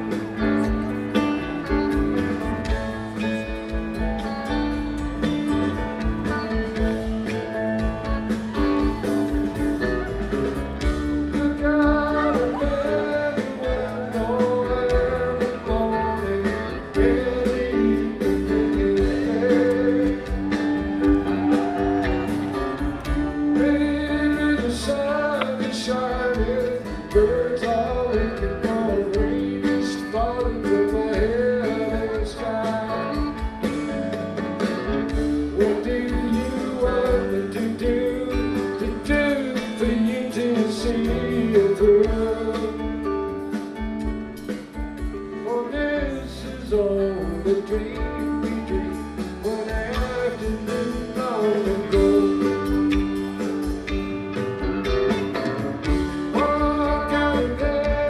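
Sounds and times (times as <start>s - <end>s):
guitar background music: 0.0s - 58.0s.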